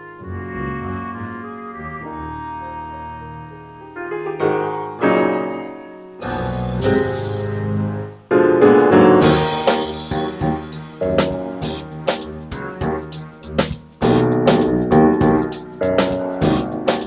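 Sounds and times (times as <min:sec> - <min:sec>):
piano background music: 0:00.0 - 0:17.0.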